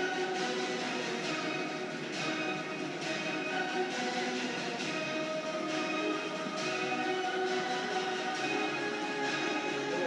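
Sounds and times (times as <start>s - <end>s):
dramatic music from tv speaker: 0.0s - 10.0s.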